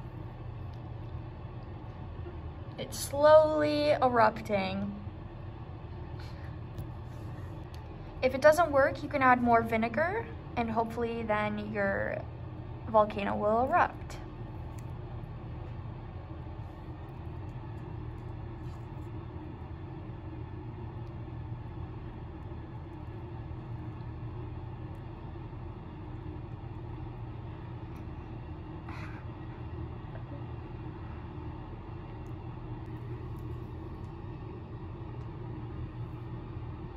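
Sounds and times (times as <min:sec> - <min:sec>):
low room hum: 0:00.0 - 0:36.9.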